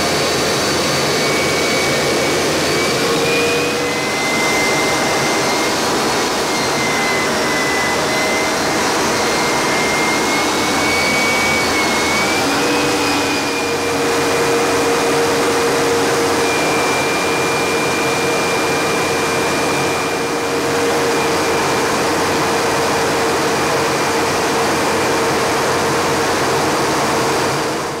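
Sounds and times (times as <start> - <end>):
high jet whine: 0.0 - 28.0
jet engine rush in cockpit: 0.0 - 28.0.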